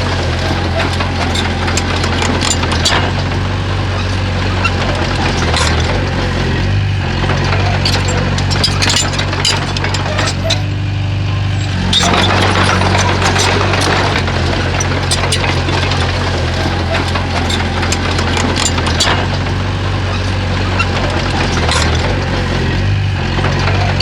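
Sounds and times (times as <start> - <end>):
bulldozer diesel engine running: 0.0 - 24.0
metallic clanks and knocks: 0.0 - 24.0.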